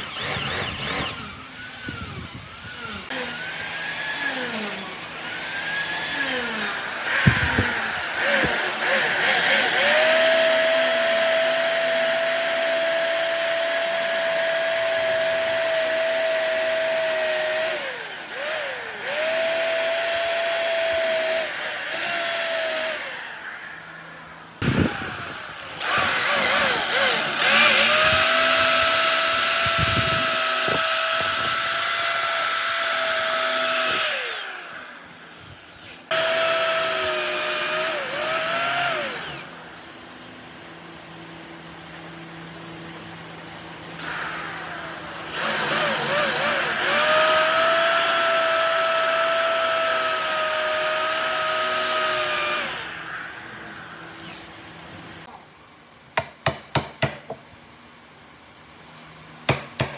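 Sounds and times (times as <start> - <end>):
electric power tool whining: 0.0 - 41.6, 43.9 - 55.3.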